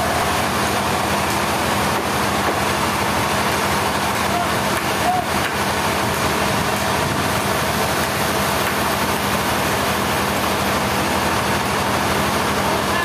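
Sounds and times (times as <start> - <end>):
sawmill machinery droning: 0.0 - 13.0.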